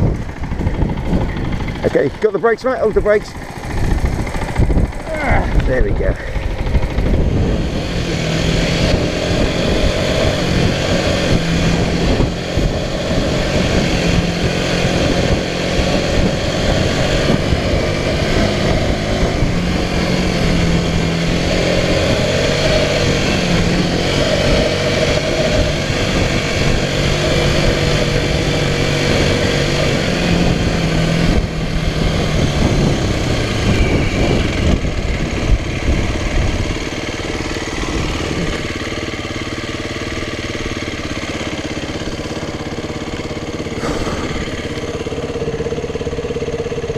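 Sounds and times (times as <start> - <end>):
steady rushing noise: 0.0 - 46.4
off-road motorbike engine: 0.0 - 46.9.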